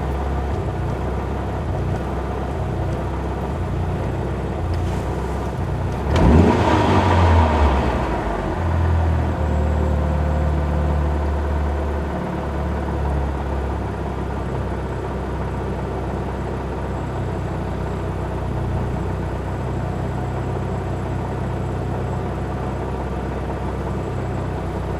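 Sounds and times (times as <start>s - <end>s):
car engine idling roughly: 0.0s - 24.9s.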